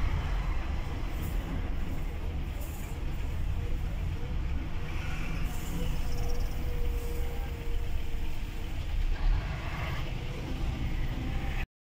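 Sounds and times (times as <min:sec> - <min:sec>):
truck engine rumble: 0:00.0 - 0:11.7.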